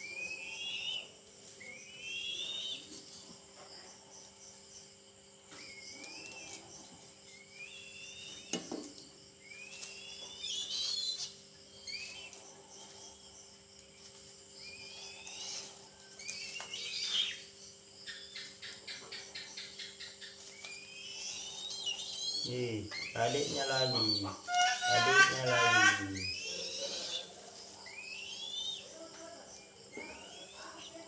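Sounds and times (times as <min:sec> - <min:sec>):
eagle chicks chirping: 0:00.0 - 0:31.0.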